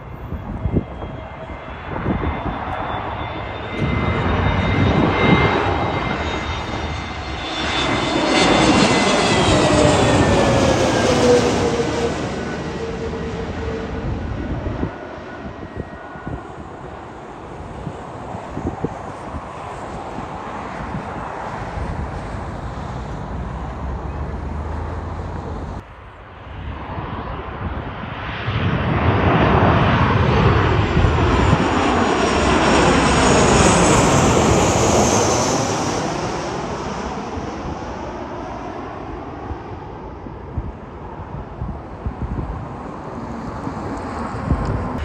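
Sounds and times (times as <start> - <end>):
airliner flying past: 0.0 - 45.0
steady engine and wind noise: 0.0 - 45.0.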